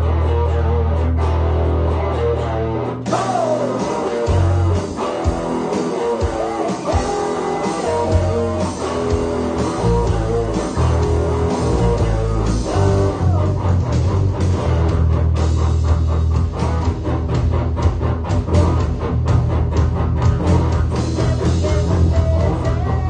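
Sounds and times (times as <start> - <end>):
bass guitar low line: 0.0 - 23.0
electric guitar playing rock: 0.0 - 23.0.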